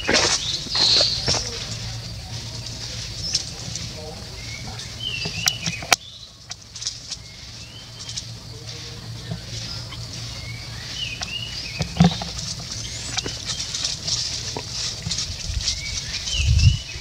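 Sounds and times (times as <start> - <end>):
monkeys scampering over dry leaves: 0.0 - 17.0.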